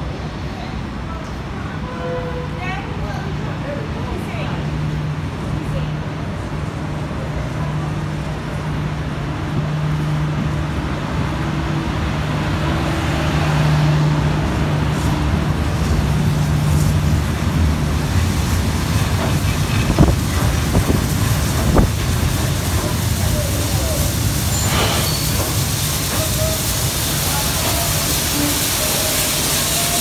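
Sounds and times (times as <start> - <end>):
train carriages rumbling past: 0.0 - 30.0.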